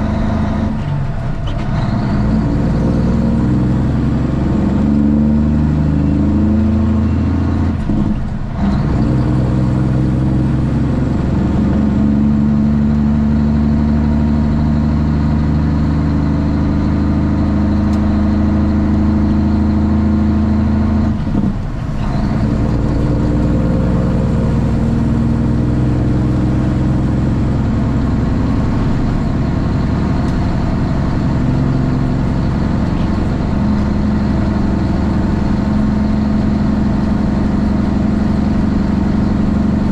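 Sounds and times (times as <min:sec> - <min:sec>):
diesel truck engine exhaust: 0:00.0 - 0:39.9.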